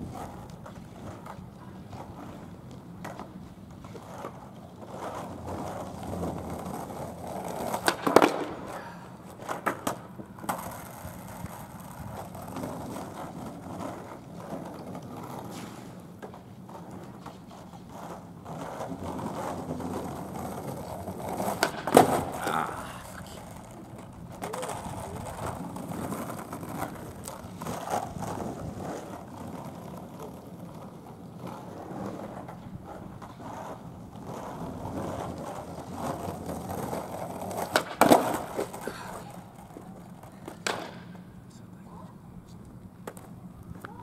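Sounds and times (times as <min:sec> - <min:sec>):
skateboard clacking on ground: 0:00.0 - 0:41.5, 0:42.6 - 0:44.0
skateboard wheels rolling on asphalt: 0:00.0 - 0:44.0.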